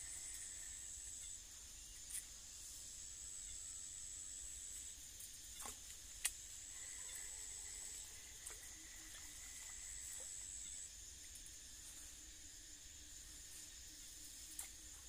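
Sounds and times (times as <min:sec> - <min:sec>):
high-pitched insect calling: 0:00.0 - 0:15.0.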